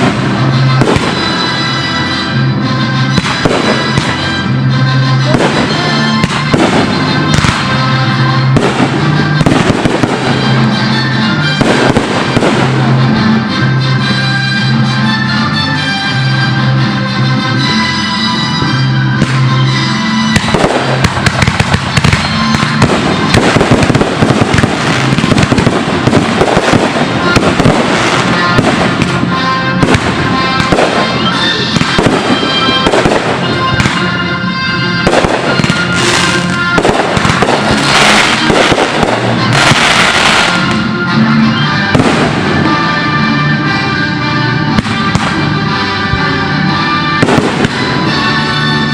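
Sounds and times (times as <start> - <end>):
fireworks bangs and crackles: 0.0 - 48.9
music playing: 0.0 - 48.9.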